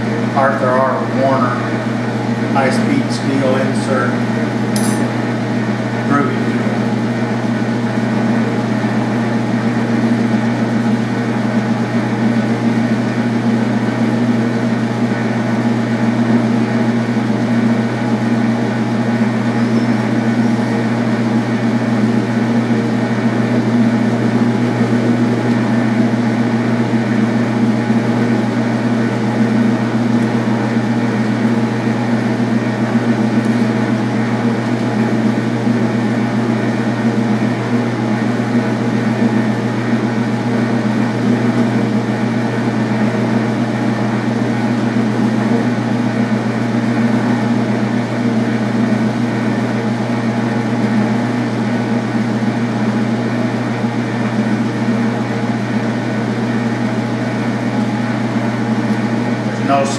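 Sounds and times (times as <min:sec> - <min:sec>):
metal lathe humming: 0:00.0 - 0:59.9.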